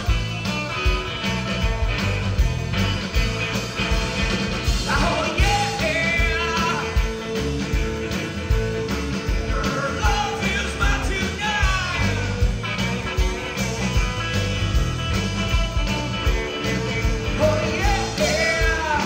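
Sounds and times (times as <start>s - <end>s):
rock music with guitar: 0.0s - 19.0s.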